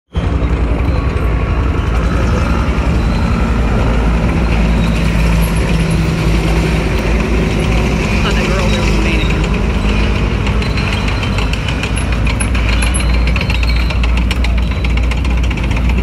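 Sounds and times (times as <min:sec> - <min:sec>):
tank engine droning: 0:00.1 - 0:16.0.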